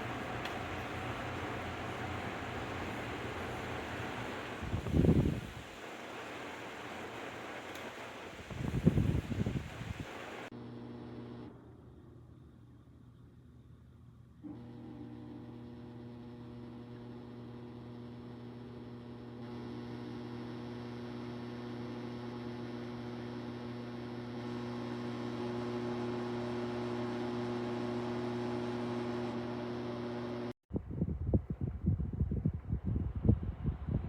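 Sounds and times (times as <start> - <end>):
tower fan running: 0.0 - 30.5.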